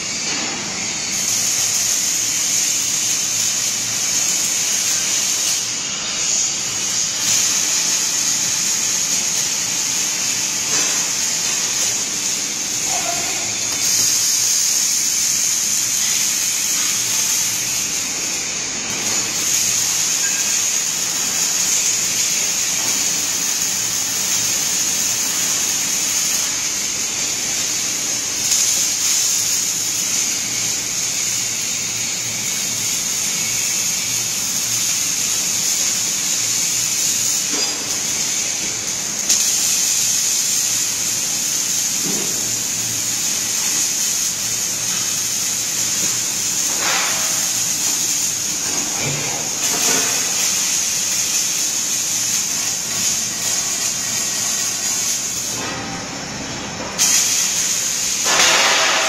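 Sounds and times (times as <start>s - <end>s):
welding arc hissing: 0.0s - 59.0s.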